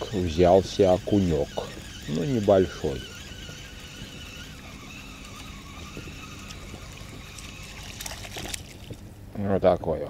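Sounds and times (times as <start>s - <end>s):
spinning reel being wound: 0.0s - 8.7s
faint water sounds: 0.0s - 10.0s.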